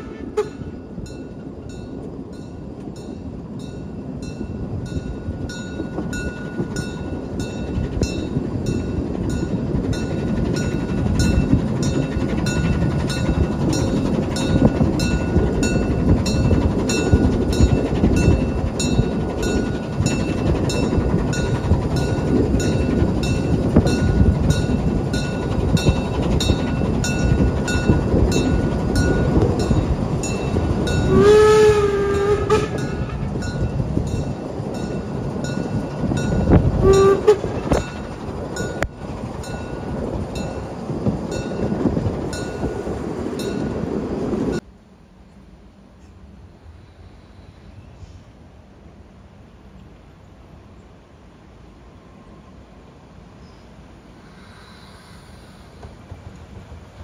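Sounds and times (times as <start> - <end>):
steam locomotive exhaust beating: 0.0 - 44.6, 54.0 - 57.0
wheels rumbling on rails: 0.0 - 57.0.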